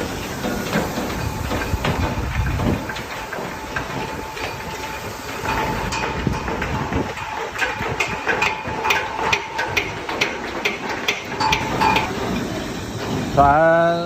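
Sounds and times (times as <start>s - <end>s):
metal clanks and knocks: 0.0s - 13.8s
carriage rolling on rails: 0.0s - 14.0s.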